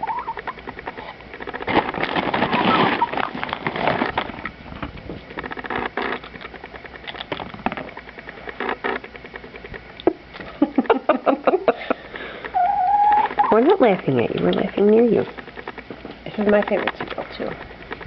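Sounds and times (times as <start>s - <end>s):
hen pecking and crunching cereal: 0.0s - 9.8s, 12.4s - 18.0s.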